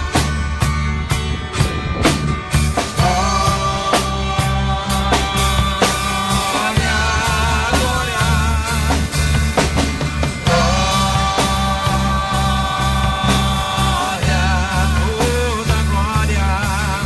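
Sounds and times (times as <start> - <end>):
worship song by band: 0.0 - 17.0.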